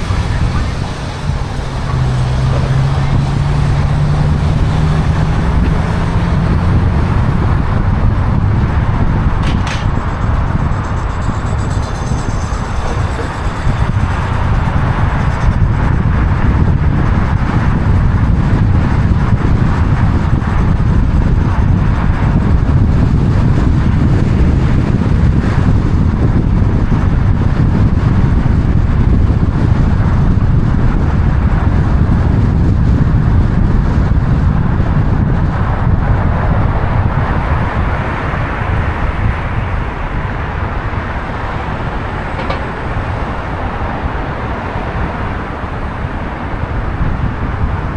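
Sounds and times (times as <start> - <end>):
moving car engine and road noise: 0.0 - 47.9.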